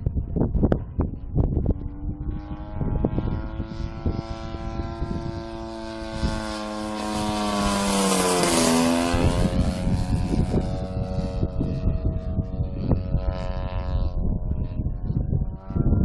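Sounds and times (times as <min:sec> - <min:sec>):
model airplane flying past: 0:00.0 - 0:16.0.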